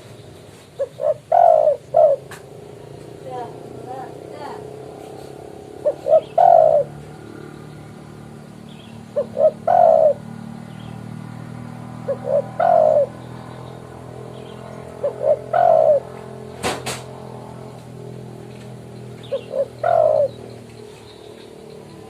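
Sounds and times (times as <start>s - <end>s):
dove cooing: 0.0s - 22.0s
steady low hum: 0.0s - 22.0s.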